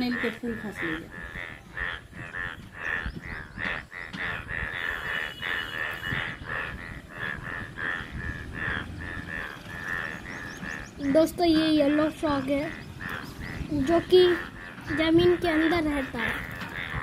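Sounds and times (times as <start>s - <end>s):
chorus of frogs croaking: 0.0s - 17.0s.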